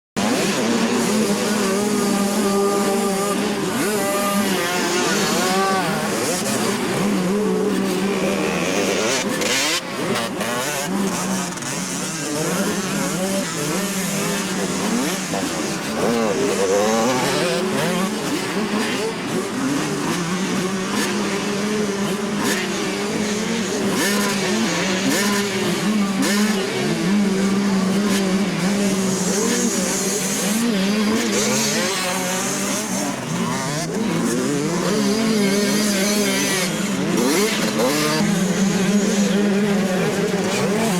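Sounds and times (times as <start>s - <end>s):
motocross bikes revving: 0.2s - 40.9s.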